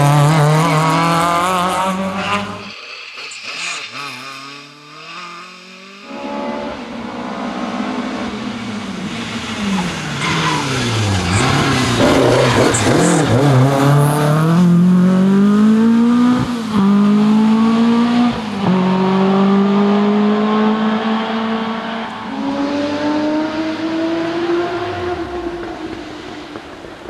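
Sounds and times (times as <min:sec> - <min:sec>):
rally car engine accelerating: 0:00.0 - 0:02.7, 0:03.9 - 0:27.0.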